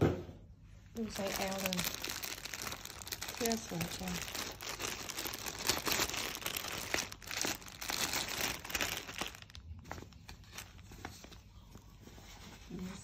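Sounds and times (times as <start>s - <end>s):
plastic bag crinkling: 1.0s - 11.4s.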